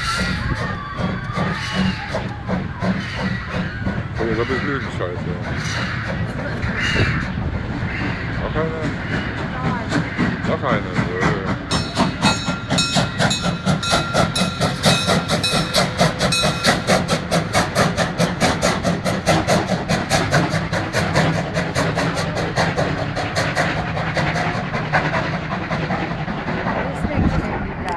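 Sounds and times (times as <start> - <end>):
train wheels clattering: 0.0 - 27.9.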